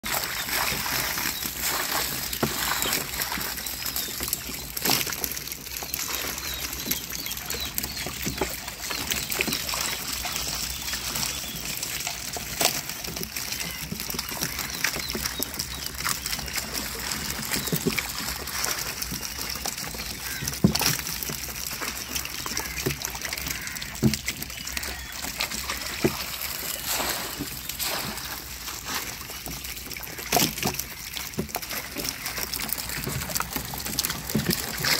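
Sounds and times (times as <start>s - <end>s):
water splashing and sloshing: 0.0s - 34.9s.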